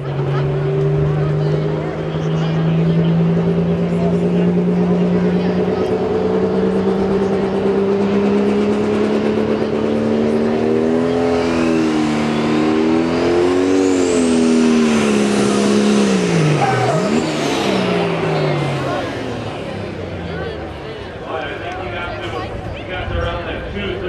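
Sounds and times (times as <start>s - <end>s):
diesel tractor engine under load: 0.0s - 23.0s.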